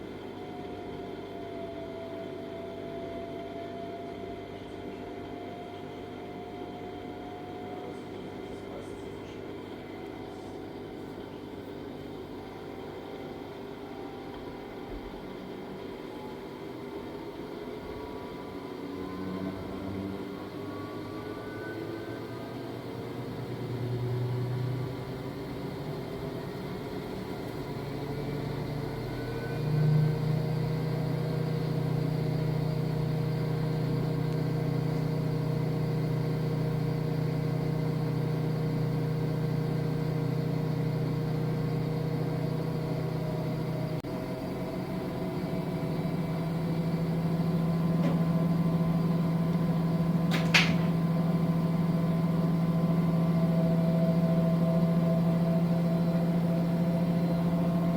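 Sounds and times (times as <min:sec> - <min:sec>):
washing machine motor hum: 0:09.4 - 0:57.9.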